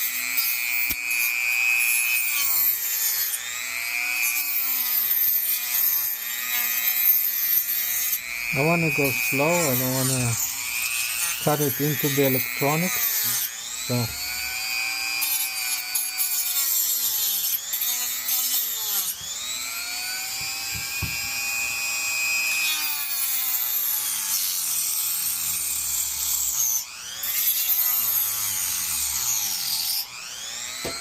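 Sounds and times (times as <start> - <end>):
rotary tool whining: 0.0 - 31.0
saw blade cutting plastic: 0.0 - 31.0.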